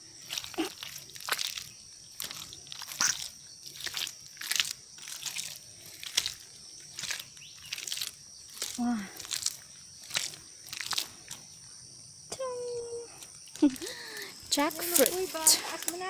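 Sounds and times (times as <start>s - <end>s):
footsteps crunching on vegetation: 0.0s - 11.5s, 13.6s - 16.0s.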